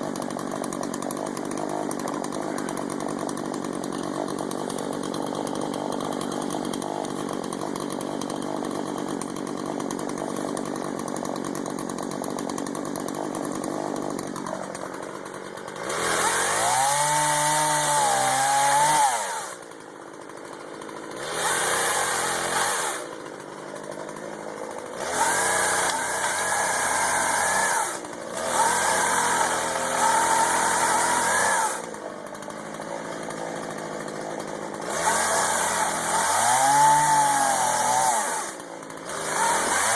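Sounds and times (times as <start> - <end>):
chainsaw engine idling: 0.0 - 39.9
chainsaw revving: 0.0 - 39.9.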